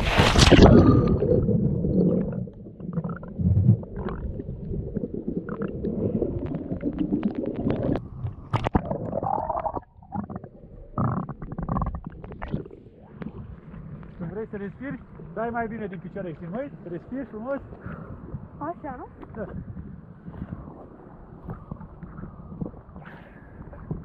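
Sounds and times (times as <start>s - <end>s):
underwater rumbling and gurgling: 0.0s - 24.0s.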